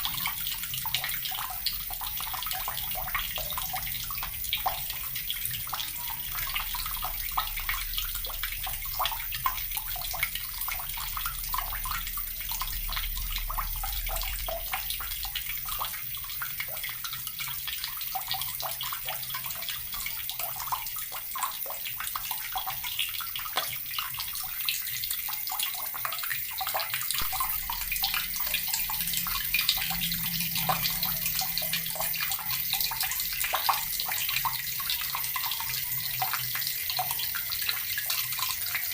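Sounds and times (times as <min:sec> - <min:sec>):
tap water running and splashing: 0:00.0 - 0:38.9.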